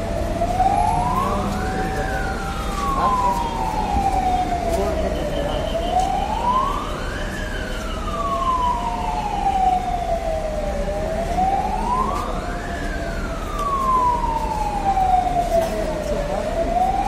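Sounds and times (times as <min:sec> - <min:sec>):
fire engine siren wailing: 0:00.0 - 0:17.0.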